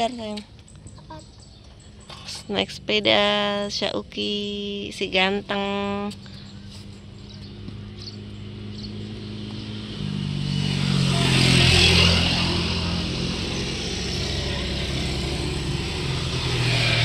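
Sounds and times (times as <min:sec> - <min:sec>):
motor scooter approaching: 0:00.0 - 0:17.0
vehicles passing on a road: 0:00.0 - 0:17.0.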